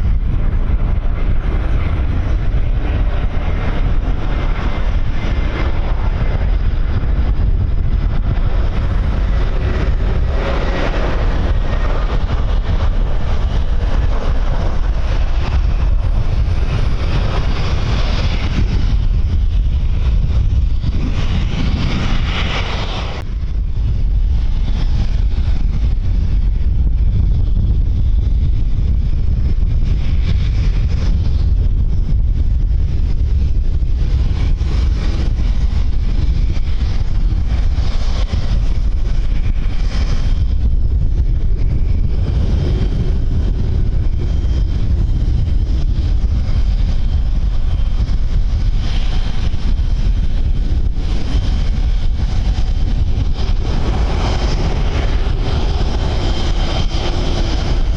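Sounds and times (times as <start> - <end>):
strong wind buffeting microphone: 0.0 - 57.9.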